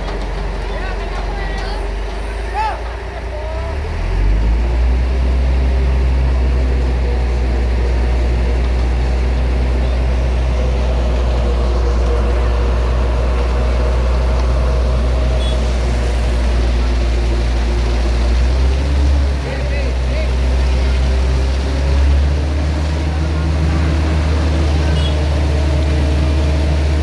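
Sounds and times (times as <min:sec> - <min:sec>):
heavy vehicle engine droning: 0:00.0 - 0:27.0.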